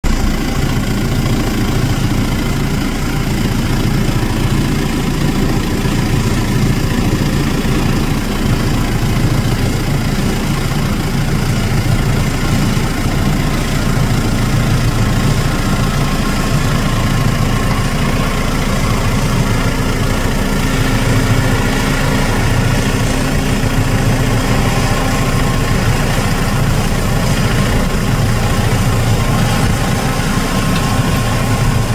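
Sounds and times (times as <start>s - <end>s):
combine harvester engine drone: 0.0s - 31.9s.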